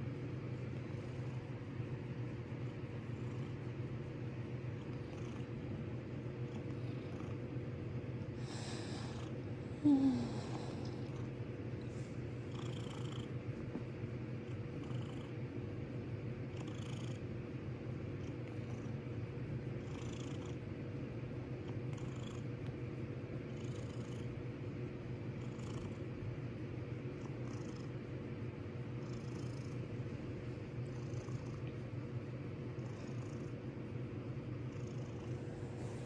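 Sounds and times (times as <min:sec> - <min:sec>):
cat purring: 0:00.0 - 0:22.8, 0:23.4 - 0:36.0.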